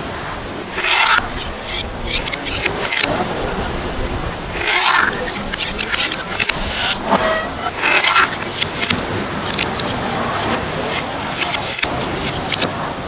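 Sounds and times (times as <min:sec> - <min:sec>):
spoon scraping clay mortar: 0:00.7 - 0:03.1, 0:04.5 - 0:12.8.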